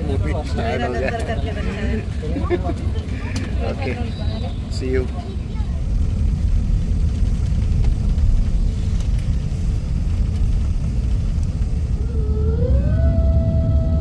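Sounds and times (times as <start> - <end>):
jet cabin deep rumble: 0.0 - 14.0.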